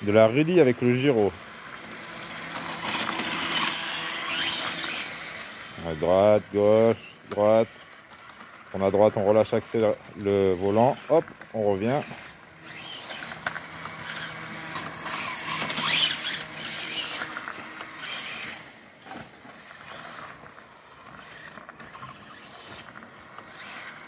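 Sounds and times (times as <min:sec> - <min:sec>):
tyres crunching on gravel: 0:00.0 - 0:23.9
electric motor whine: 0:00.0 - 0:24.0.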